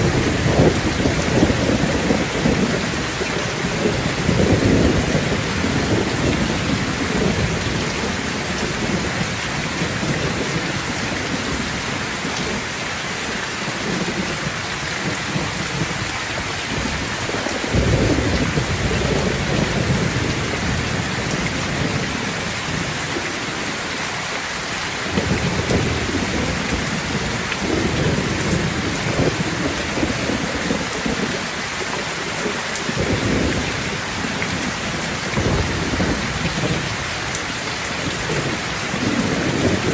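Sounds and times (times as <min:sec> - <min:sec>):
thunder rumbling: 0:00.0 - 0:24.0, 0:25.0 - 0:31.7, 0:32.3 - 0:39.9
heavy rain falling: 0:00.0 - 0:39.9.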